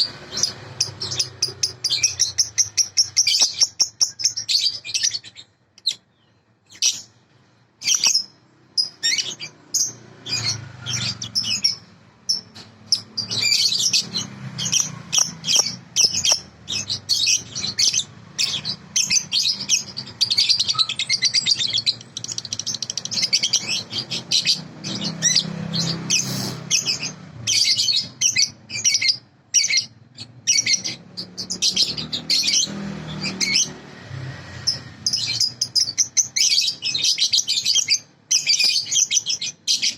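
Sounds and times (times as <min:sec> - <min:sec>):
young bird chirping rapidly: 0:00.0 - 0:33.9, 0:34.5 - 0:39.9.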